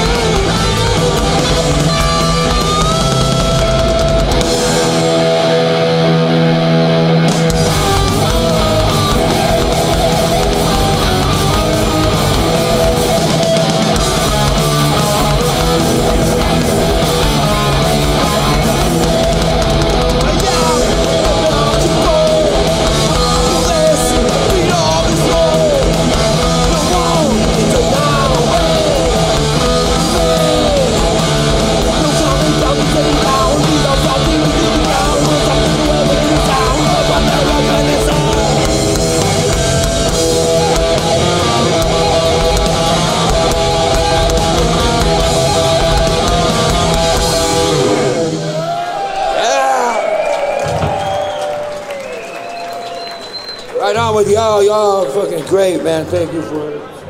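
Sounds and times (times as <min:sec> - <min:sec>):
metal band playing live: 0:00.0 - 0:50.0
distorted electric guitars: 0:00.0 - 0:57.0
drums: 0:00.0 - 0:57.0.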